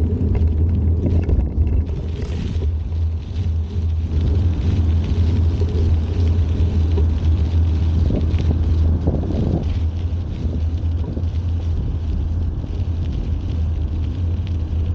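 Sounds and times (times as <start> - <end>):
bicycle rolling noise: 0.0 - 14.9
wind rumbling on microphone: 0.0 - 14.9.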